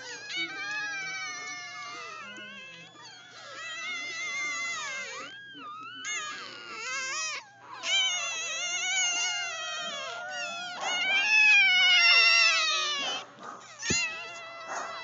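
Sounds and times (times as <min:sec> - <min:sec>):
puppies crying and squealing: 0:00.0 - 0:15.0.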